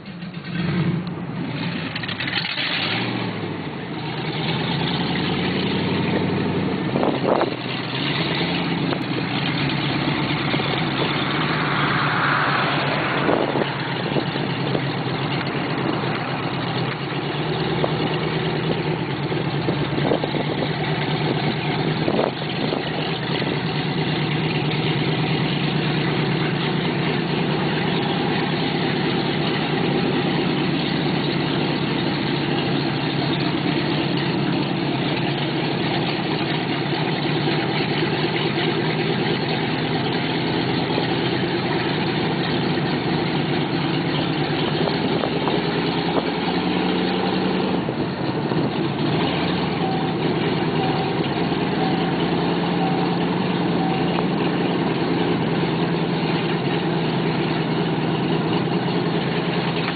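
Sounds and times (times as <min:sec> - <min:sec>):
engine exhaust revving: 0:00.0 - 0:59.9.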